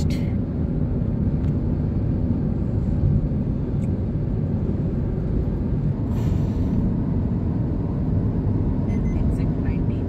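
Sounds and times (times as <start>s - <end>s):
car road and wind rumble: 0.0s - 10.0s.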